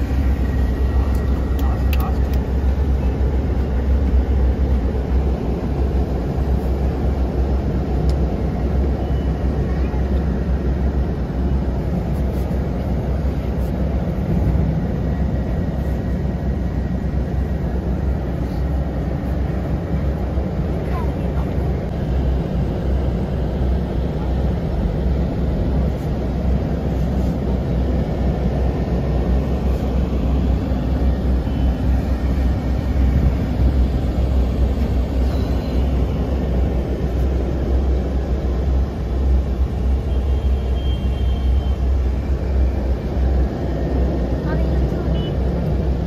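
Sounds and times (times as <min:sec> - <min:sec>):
bus engine and road noise: 0:00.0 - 0:46.0.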